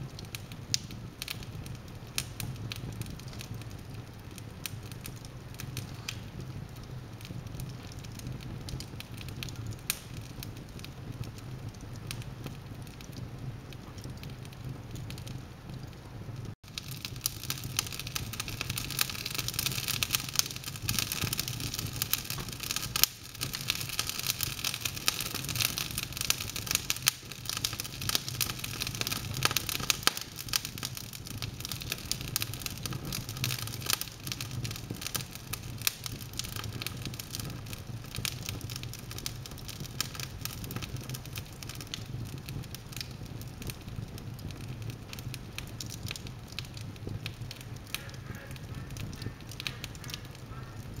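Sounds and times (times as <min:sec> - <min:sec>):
logs crackling in fireplace: 0:00.0 - 0:51.0.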